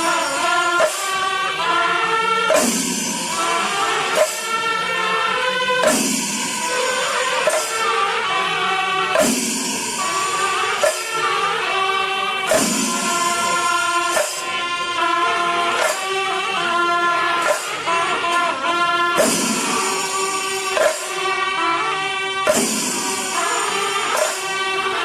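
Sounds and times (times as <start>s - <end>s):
choral music over a beat: 0.0s - 25.0s.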